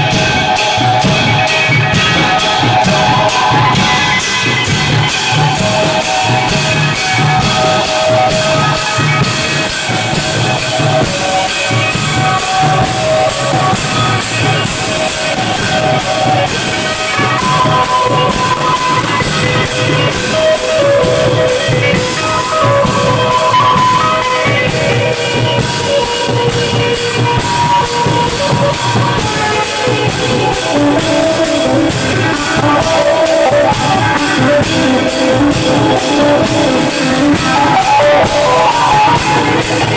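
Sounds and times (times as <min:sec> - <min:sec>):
drum and cymbal beat: 0:00.0 - 0:39.9.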